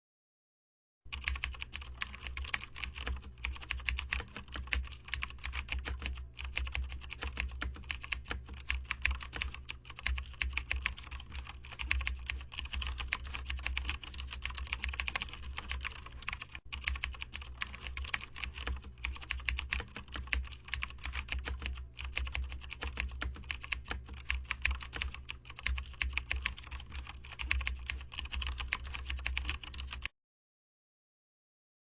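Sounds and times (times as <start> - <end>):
fast keyboard typing: 1.1 - 30.1.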